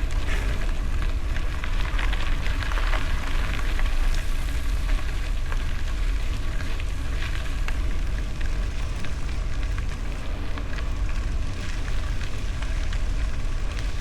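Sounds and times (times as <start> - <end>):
bicycle tyres on gravel: 0.0 - 14.0.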